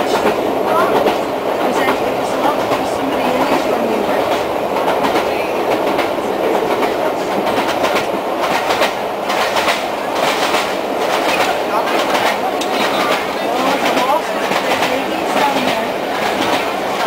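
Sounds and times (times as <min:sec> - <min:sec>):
railway carriage rumble: 0:00.0 - 0:17.0
wheels clicking over rail joints: 0:00.0 - 0:17.0.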